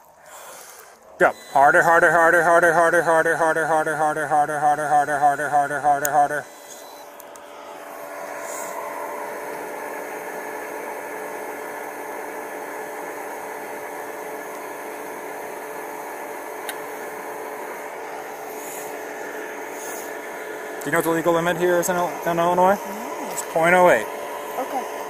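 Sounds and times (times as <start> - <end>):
mechanical hum and whir: 0.0 - 25.0.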